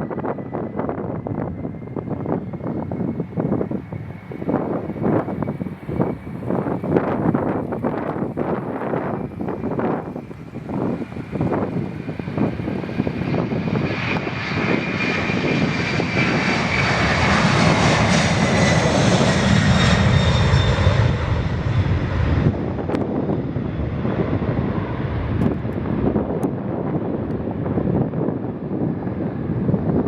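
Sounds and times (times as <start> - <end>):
jet aircraft roaring past: 0.0 - 30.0.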